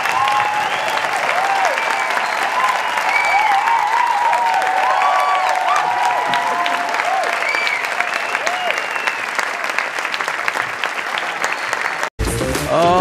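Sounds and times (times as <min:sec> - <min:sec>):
large audience applauding: 0:00.0 - 0:12.1.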